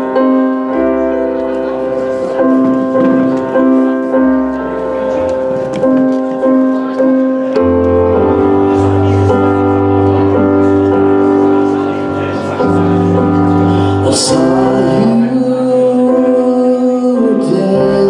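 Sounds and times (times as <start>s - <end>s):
stage piano chords: 0.0s - 18.0s.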